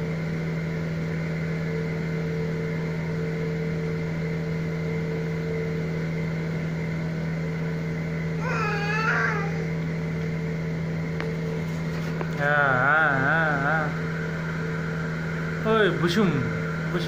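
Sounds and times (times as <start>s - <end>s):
motor humming: 2.8s - 17.0s.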